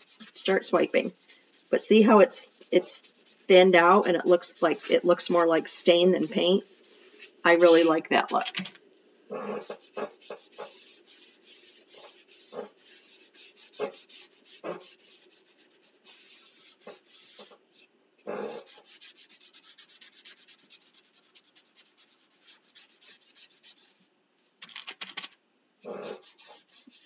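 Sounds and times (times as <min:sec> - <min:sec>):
wipe rubbing across wood: 0:00.0 - 0:08.3, 0:09.4 - 0:24.0, 0:25.8 - 0:27.0.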